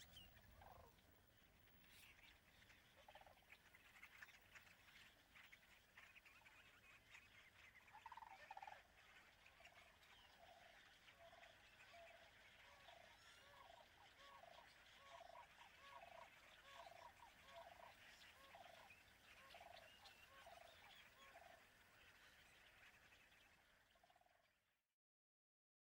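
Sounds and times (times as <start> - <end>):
faint animal calls: 0.0 - 24.5.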